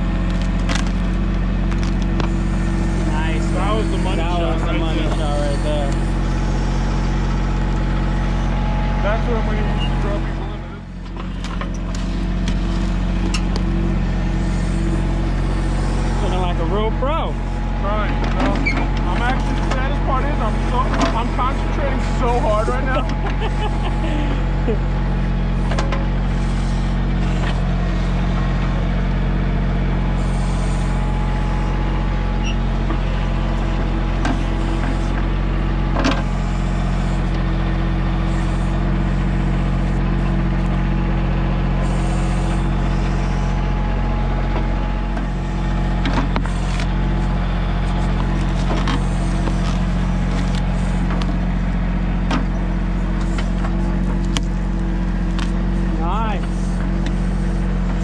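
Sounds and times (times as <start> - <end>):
backhoe clunks: 0.0 - 3.8, 7.1 - 14.2, 18.1 - 30.1, 30.9 - 58.0
tractor diesel engine running: 0.0 - 58.0.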